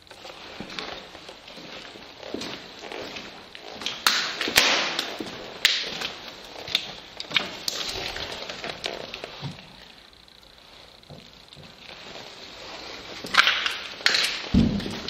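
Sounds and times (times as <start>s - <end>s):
footsteps crunching over debris: 0.0s - 10.0s, 10.7s - 15.0s
sharp clicks and cracks: 0.0s - 15.0s.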